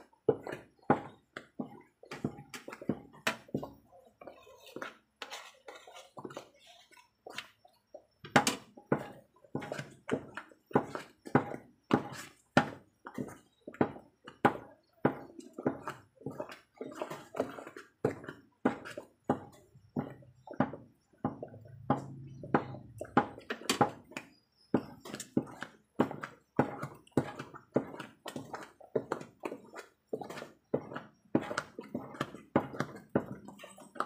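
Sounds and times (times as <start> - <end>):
thick paste thudding and plopping: 0.0 - 34.0.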